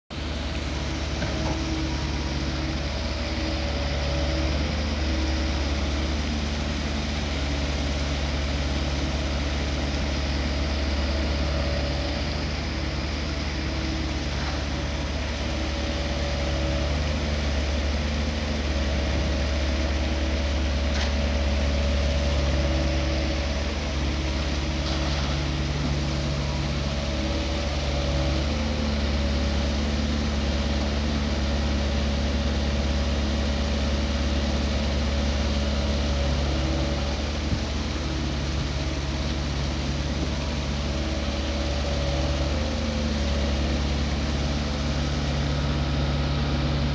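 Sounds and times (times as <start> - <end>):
excavator diesel engine running: 0.1 - 46.9.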